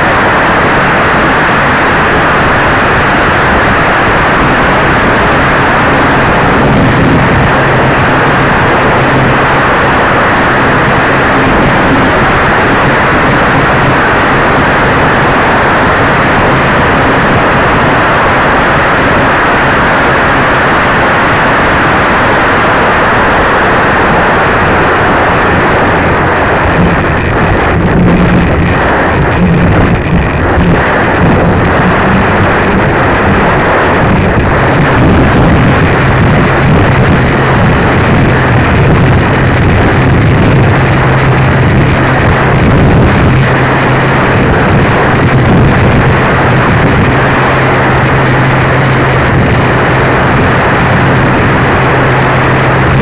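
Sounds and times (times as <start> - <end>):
airflow and propeller noise: 0.0 - 53.0.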